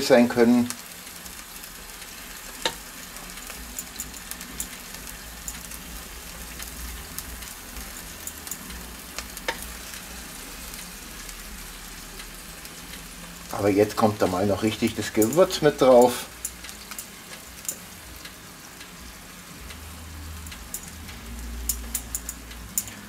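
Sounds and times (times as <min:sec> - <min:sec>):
chicken sizzling in tray: 0:00.0 - 0:23.0.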